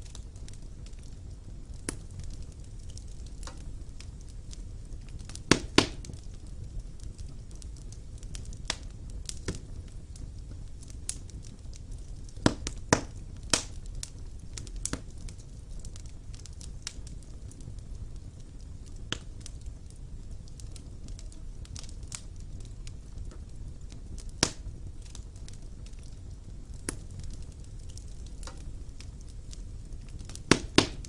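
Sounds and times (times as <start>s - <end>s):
fire crackling and popping: 0.0s - 31.0s
fire rumbling in a fireplace: 0.0s - 31.0s.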